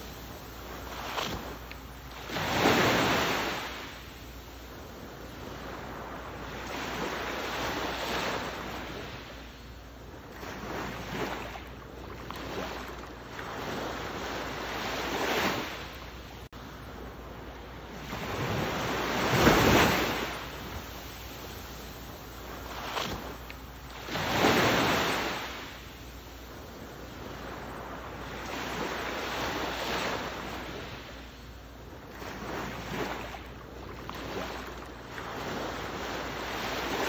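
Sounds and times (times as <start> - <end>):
ocean waves washing in: 0.0 - 37.0.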